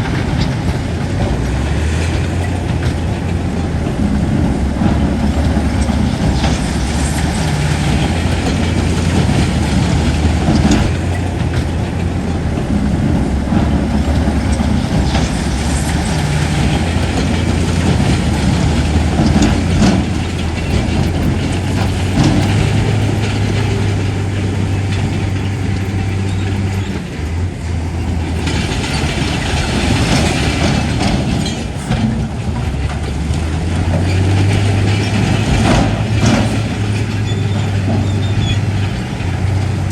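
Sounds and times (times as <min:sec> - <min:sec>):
diesel engine droning: 0:00.0 - 0:39.9
metal clanking and scraping: 0:00.0 - 0:39.9.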